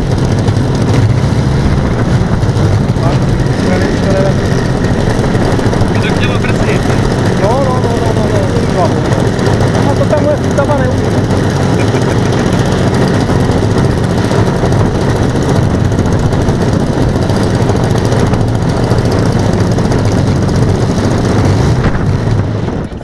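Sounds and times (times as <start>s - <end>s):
model airplane engines droning: 0.0s - 23.0s.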